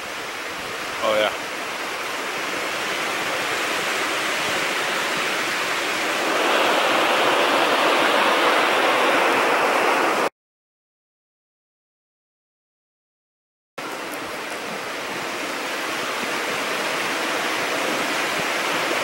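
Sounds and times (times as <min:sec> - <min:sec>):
river rushing: 0:00.0 - 0:10.3, 0:13.8 - 0:19.0.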